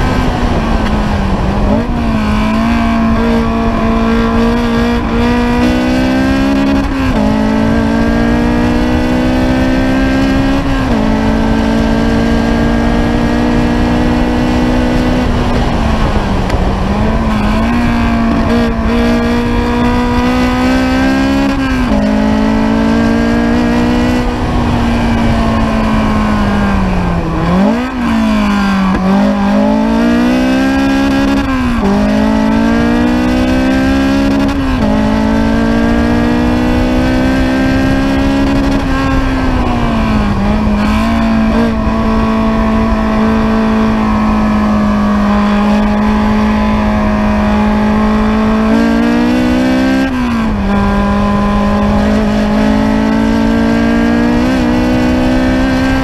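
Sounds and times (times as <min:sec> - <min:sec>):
car engine accelerating and shifting: 0:00.0 - 0:56.0.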